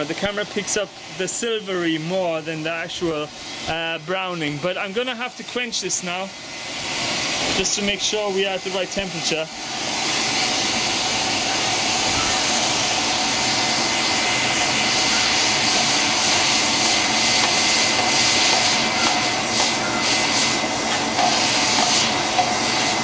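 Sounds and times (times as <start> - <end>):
hot steel quenching sizzle: 0.0 - 23.0.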